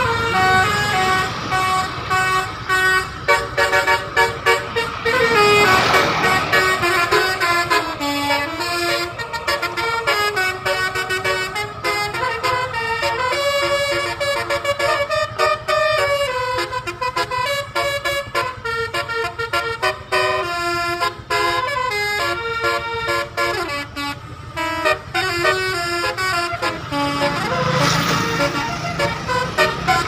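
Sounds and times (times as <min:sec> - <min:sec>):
multi-tone musical horn melody: 0:00.0 - 0:30.0.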